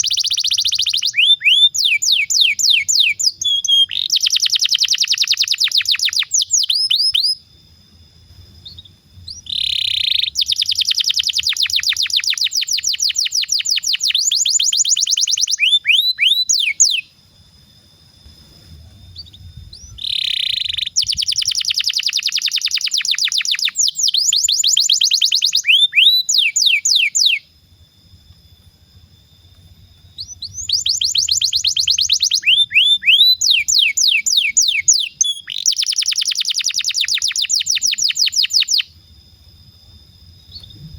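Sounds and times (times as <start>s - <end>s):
canary singing trills: 0.0s - 7.5s, 8.4s - 17.1s, 19.1s - 27.5s, 30.0s - 39.0s.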